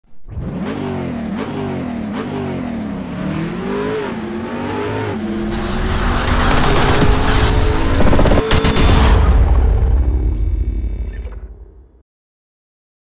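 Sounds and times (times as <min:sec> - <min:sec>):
car engine revving: 0:00.1 - 0:11.2.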